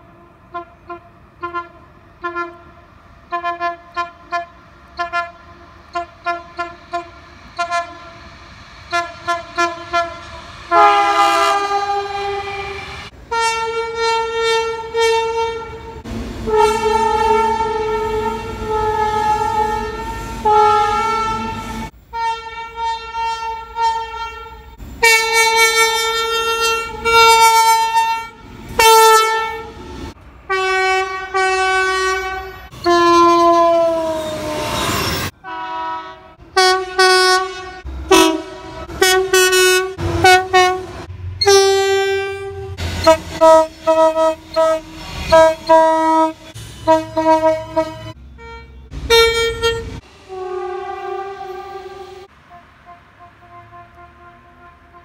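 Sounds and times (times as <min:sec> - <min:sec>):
short train horn toots: 0:00.5 - 0:08.2, 0:08.9 - 0:29.8, 0:30.5 - 0:55.0
train horn blasts: 0:00.5 - 0:08.2, 0:08.9 - 0:55.0.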